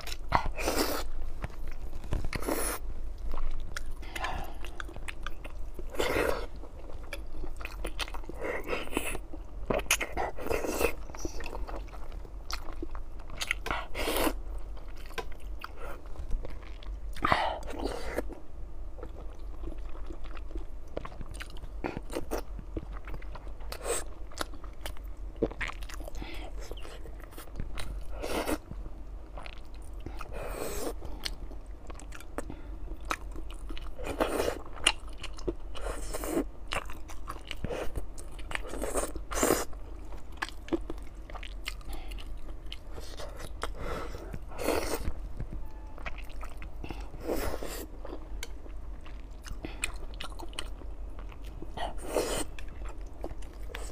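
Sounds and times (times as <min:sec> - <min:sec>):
chewing with wet mouth sounds: 0:00.0 - 0:53.9.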